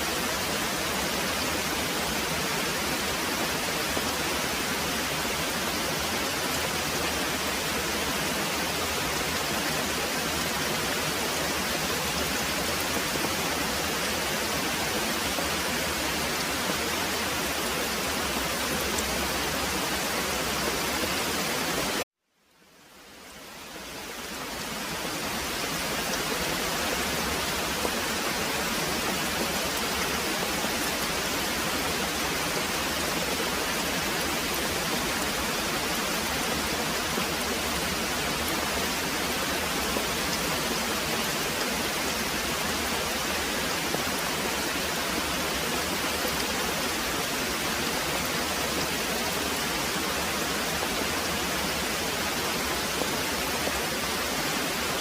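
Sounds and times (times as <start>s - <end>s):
heavy rain pouring: 0.0s - 22.0s, 22.8s - 55.0s.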